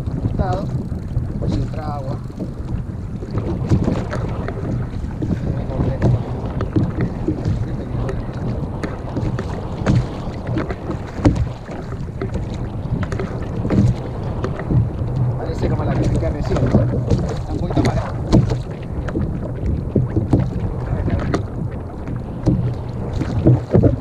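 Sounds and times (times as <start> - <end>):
water slapping against kayak hull: 0.0 - 24.0
wind buffeting microphone: 0.0 - 24.0.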